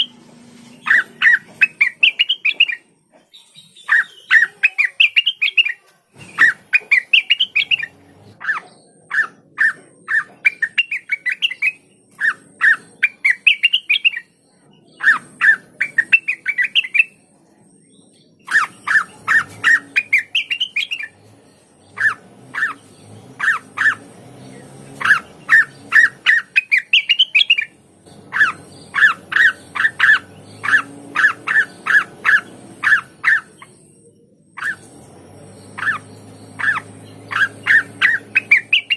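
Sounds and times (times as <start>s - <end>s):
bird singing sharp chipping notes: 0.0s - 38.9s.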